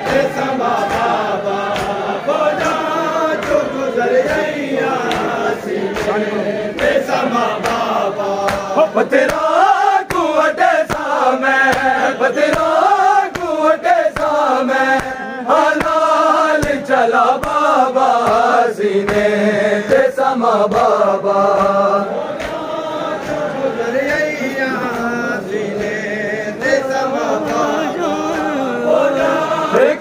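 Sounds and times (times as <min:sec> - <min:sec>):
hand slaps on bare chests: 0:00.0 - 0:29.5
men chanting in unison: 0:00.0 - 0:30.0.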